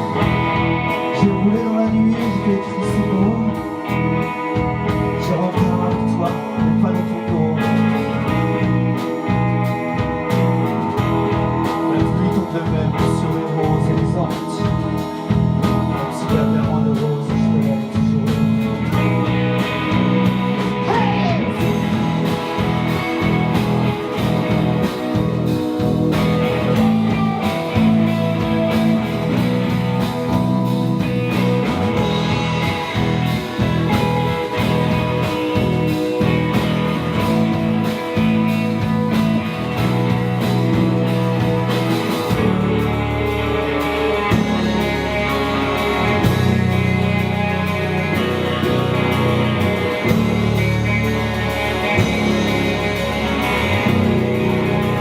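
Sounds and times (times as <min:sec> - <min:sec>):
instrumental rock band: 0:00.0 - 0:55.0
lead guitar line: 0:00.0 - 0:55.0.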